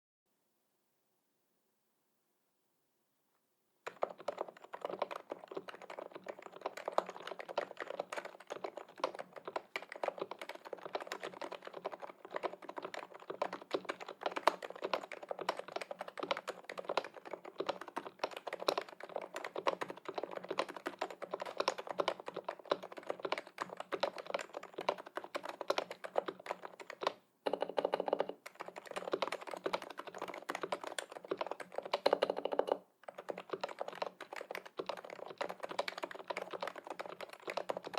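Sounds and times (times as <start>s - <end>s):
fast typing on keyboard: 3.8s - 37.9s.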